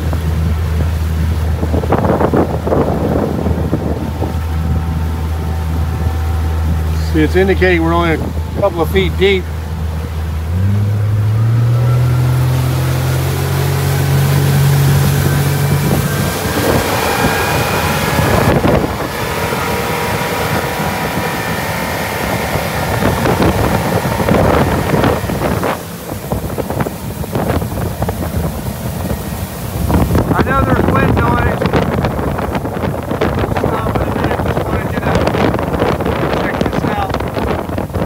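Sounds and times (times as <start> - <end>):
outboard motor running: 0.0 - 38.0
rushing water: 0.0 - 38.0
wind buffeting microphone: 0.0 - 38.0.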